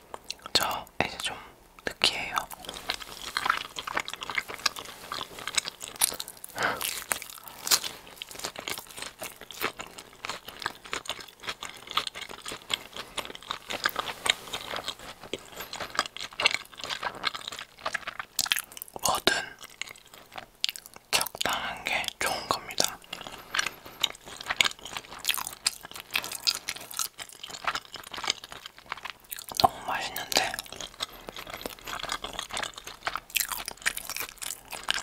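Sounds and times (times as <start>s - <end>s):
chewing crusty bread: 0.0s - 35.0s.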